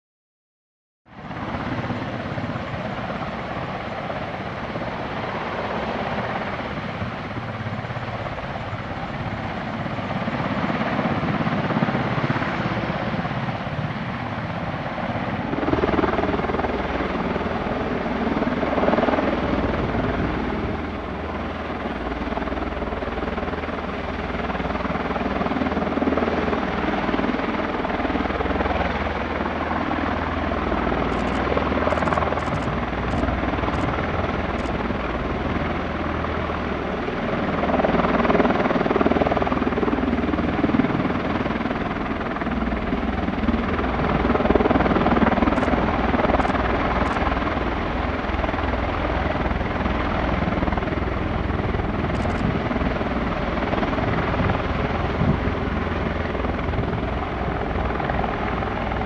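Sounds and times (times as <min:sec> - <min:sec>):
tilt-rotor aircraft engines running: 0:01.1 - 0:59.0.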